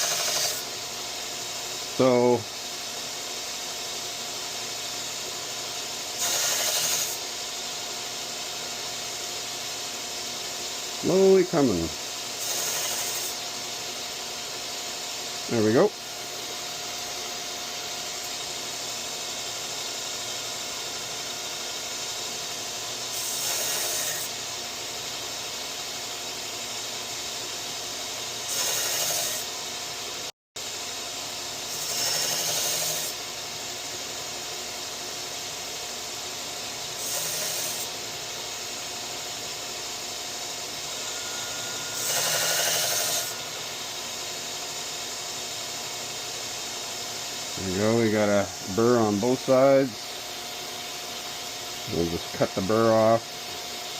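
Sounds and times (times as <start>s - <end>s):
belt grinder running: 0.0s - 3.1s, 3.7s - 30.0s, 30.8s - 49.9s
blade grinding hiss on belt: 0.0s - 53.9s.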